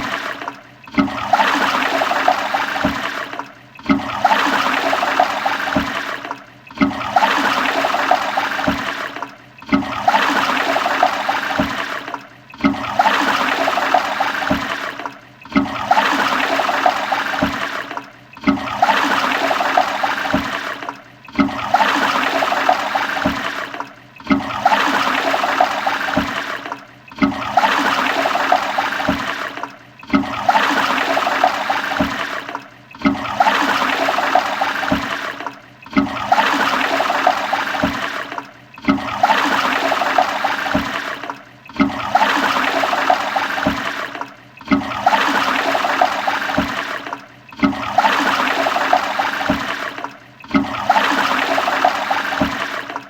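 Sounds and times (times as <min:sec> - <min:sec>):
toilet flushing: 0:00.0 - 0:53.0.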